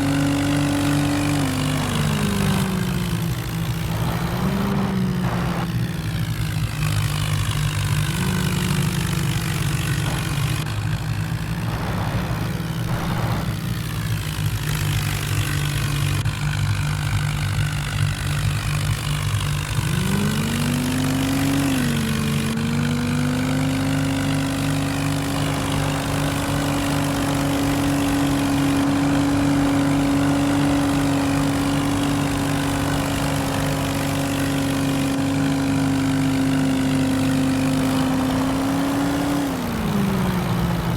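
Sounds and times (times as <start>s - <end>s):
car engine running: 0.0s - 40.9s
tractor diesel engine: 0.0s - 40.9s.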